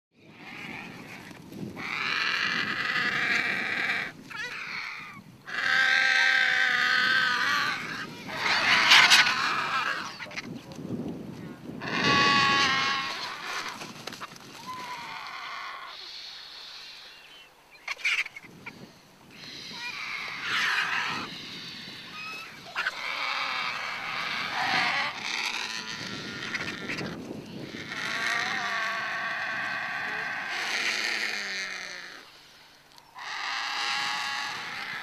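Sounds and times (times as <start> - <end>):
vultures rasping calls: 0.2 - 10.6, 11.8 - 35.0.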